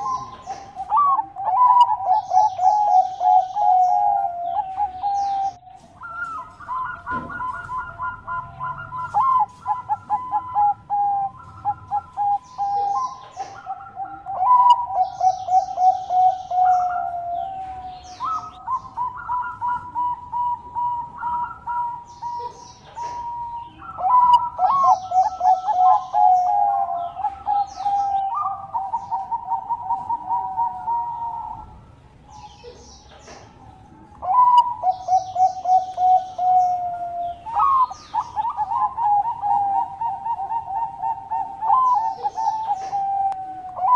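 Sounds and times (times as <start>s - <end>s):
dove cooing and trilling: 0.0s - 43.9s.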